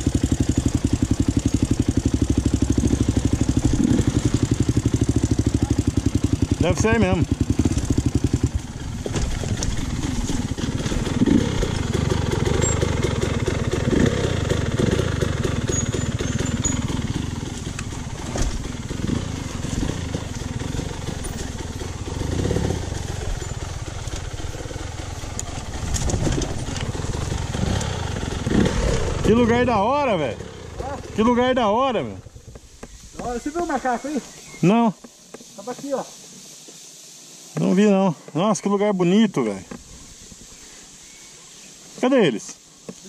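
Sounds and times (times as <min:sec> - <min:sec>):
dirt bike engine revving: 0:00.0 - 0:34.8.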